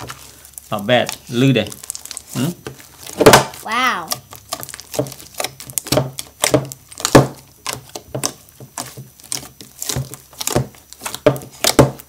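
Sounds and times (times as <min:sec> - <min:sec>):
slime squelching: 0:00.0 - 0:11.8.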